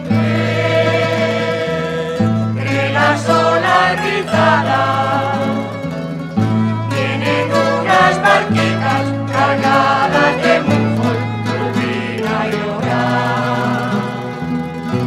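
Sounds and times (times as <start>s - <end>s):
mixed choir singing: 0.0s - 6.0s, 6.9s - 15.0s
plucked lutes and guitars: 0.0s - 15.0s
violin: 0.0s - 15.0s.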